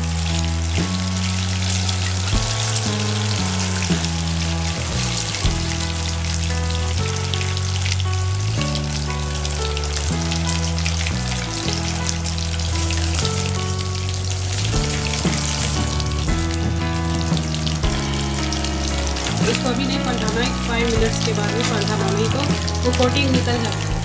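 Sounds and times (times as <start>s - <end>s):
background music of held notes: 0.0s - 24.0s
chicken deep-frying in oil: 0.0s - 24.0s.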